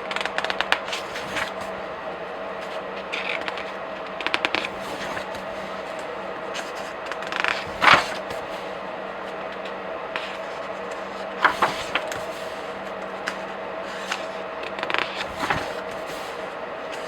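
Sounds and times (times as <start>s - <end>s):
faint steady hum: 0.0s - 17.0s
pages being turned: 0.2s - 17.0s.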